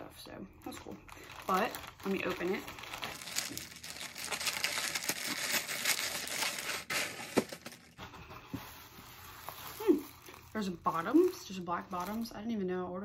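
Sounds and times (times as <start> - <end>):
plastic packaging tearing and crinkling: 0.7 - 8.0, 8.6 - 12.3.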